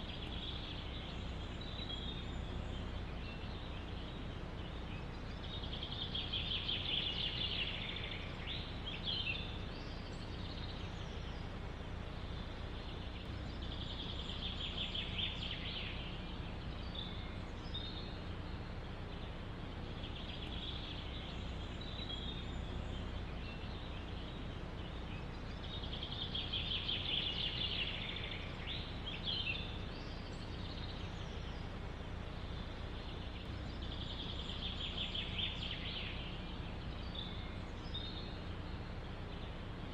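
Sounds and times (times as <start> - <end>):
bird chirps: 0.0 - 39.9
low wind rumble: 0.0 - 39.9
songbird trilling: 0.0 - 39.9.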